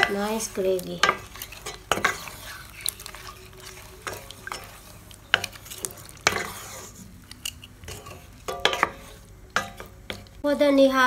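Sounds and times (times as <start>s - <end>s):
spatula stirring thick gravy: 0.0s - 10.4s.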